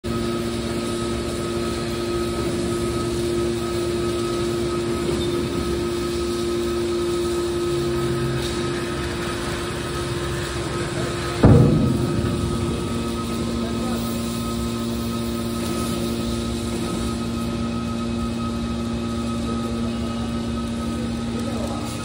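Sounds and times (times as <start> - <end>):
hydraulic whine: 0.1 - 22.0
motor and hydraulic pump humming: 0.1 - 22.0.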